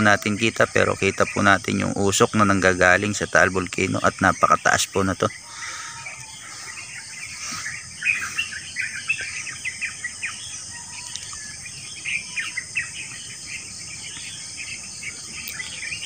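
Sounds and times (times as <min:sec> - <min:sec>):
birds chirping: 0:00.0 - 0:16.0
high insect drone: 0:00.0 - 0:16.0.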